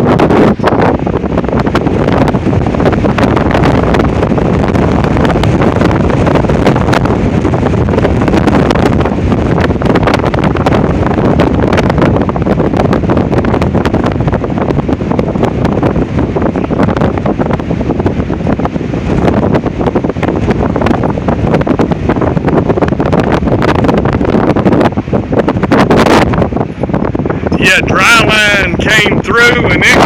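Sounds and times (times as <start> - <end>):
strong wind buffeting microphone: 0.0 - 30.0.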